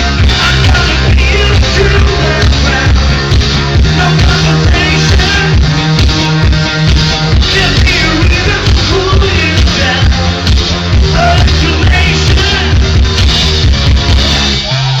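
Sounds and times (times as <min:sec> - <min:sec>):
electro-rock music: 0:00.0 - 0:15.0.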